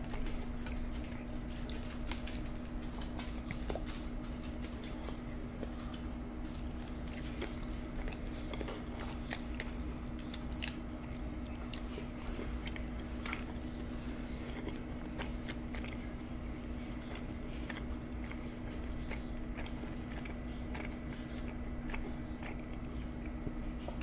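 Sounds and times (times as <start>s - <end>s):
chewing and biting: 0.0s - 24.0s
steady low hum: 0.0s - 24.0s.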